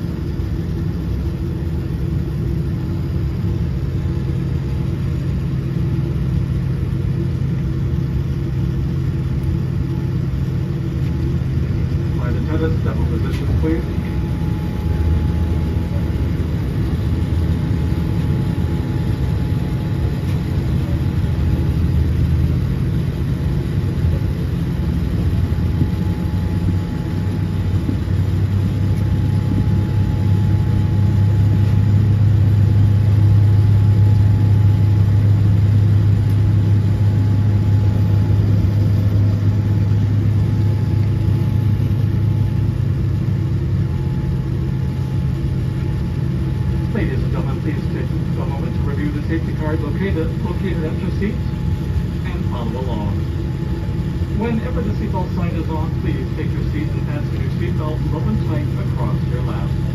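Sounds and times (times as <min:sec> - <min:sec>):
airliner cabin hum: 0:00.0 - 0:59.9.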